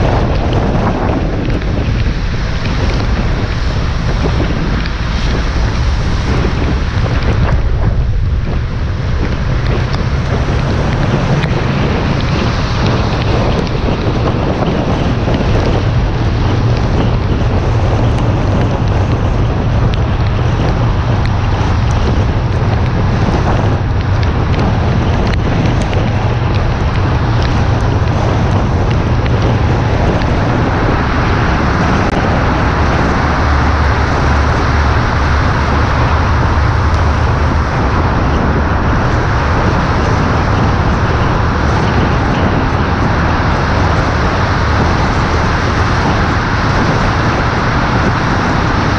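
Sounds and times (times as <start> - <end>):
tyres hissing on wet road: 0.0 - 48.9
wind rushing over camera: 0.0 - 48.9.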